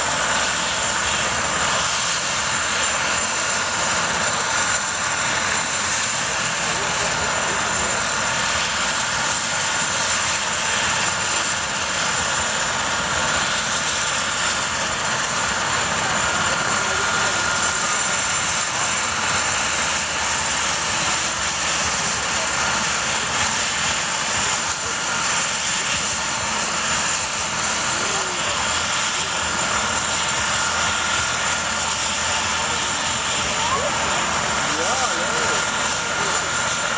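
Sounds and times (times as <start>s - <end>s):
helicopter turbine whine: 0.0s - 36.9s
rush of helicopter rotors: 0.0s - 36.9s.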